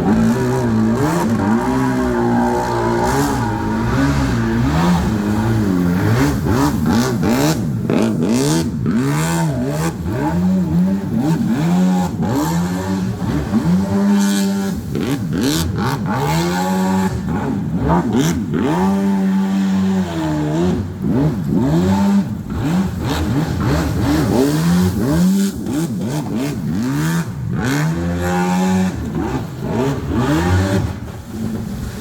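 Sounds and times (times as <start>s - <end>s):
small boat engine revving: 0.0s - 32.0s.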